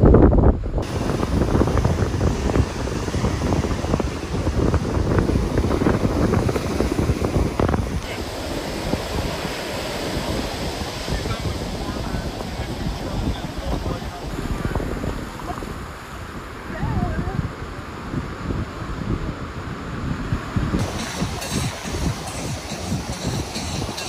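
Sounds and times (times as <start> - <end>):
wind buffeting microphone: 0.0 - 24.0
surf washing on sandy beach: 0.8 - 24.0.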